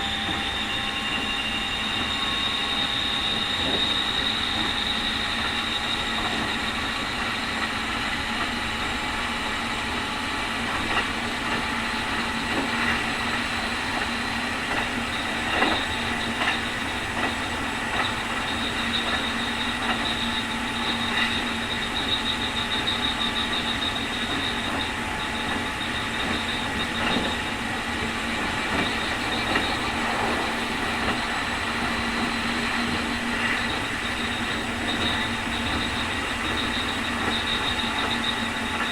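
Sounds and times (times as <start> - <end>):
electric train high whine: 0.0 - 38.9
train wheel and rail noise: 0.0 - 38.9.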